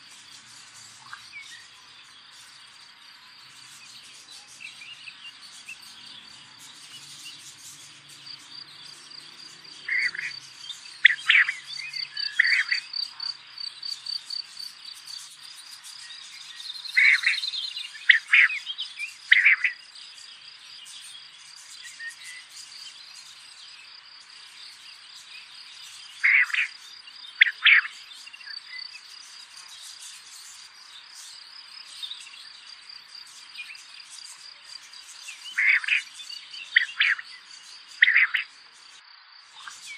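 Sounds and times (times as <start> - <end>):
insects chirping in high trill: 0.0 - 39.9.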